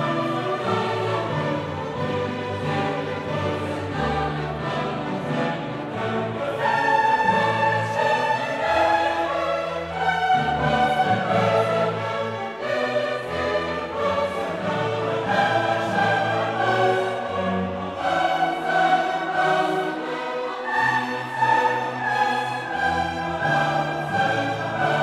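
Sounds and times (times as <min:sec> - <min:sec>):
choir singing sustained notes: 0:00.0 - 0:25.0
orchestra playing: 0:00.0 - 0:25.0.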